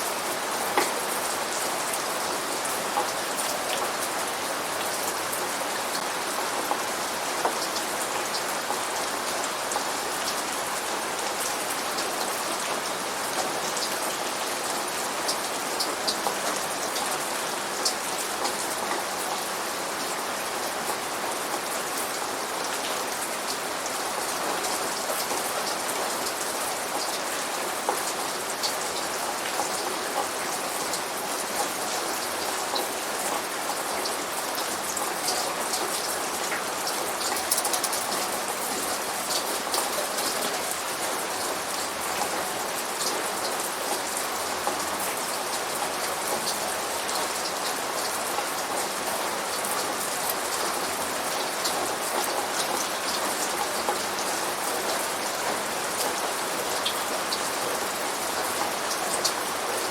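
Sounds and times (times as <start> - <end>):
raindrops ticking on surface: 0.1 - 59.9.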